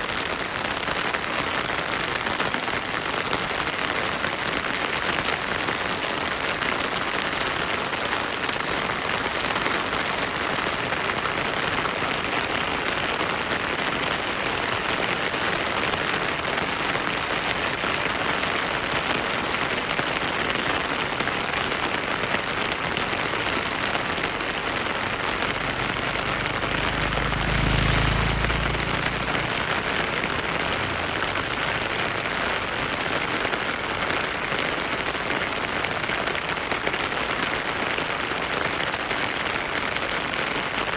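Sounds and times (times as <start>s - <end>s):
heavy rain hissing: 0.1s - 40.9s.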